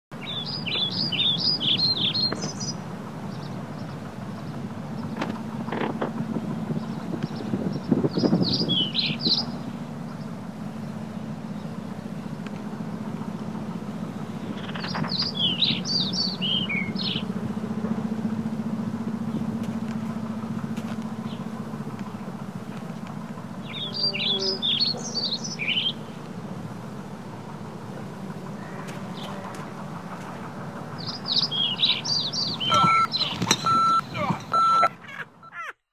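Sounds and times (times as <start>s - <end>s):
steady low hum: 0.2s - 35.5s
songbird chirping: 0.2s - 35.7s.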